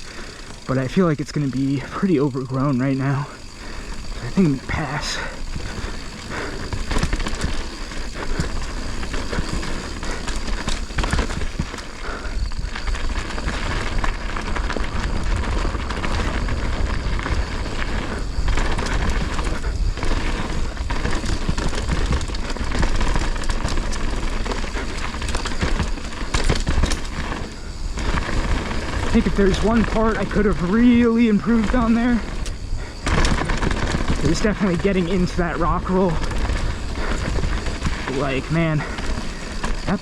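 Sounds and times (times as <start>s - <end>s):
bike knocks and rattles: 0.0s - 40.0s
tyres crackling over stones: 0.0s - 40.0s
wind rumbling on microphone: 0.0s - 40.0s.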